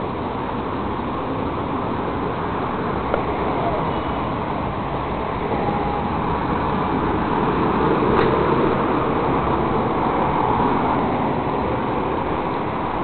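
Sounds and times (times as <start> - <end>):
buses and cars passing: 0.0 - 13.0.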